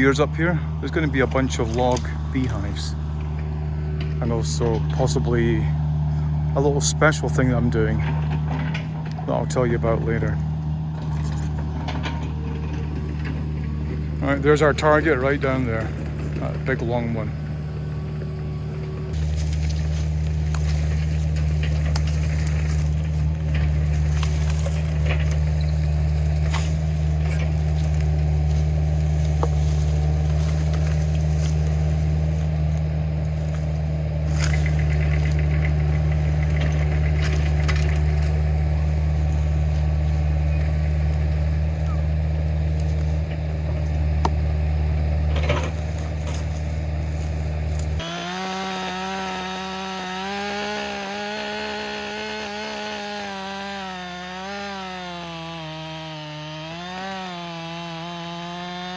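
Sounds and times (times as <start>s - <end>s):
low engine drone: 0.0s - 52.6s
chainsaw cutting log: 0.0s - 58.9s.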